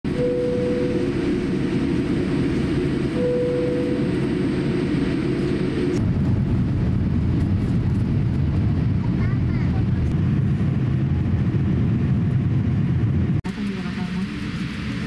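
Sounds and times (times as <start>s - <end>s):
airplane cabin rumble: 0.1s - 15.0s.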